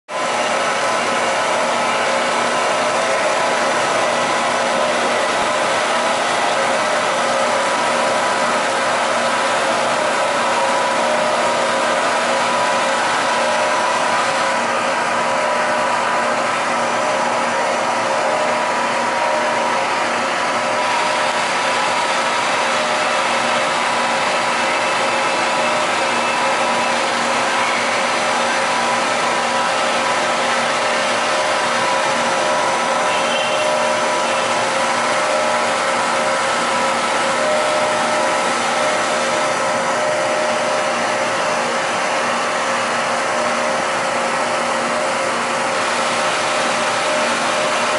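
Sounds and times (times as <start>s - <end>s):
boring mill machine whir: 0.1s - 47.9s.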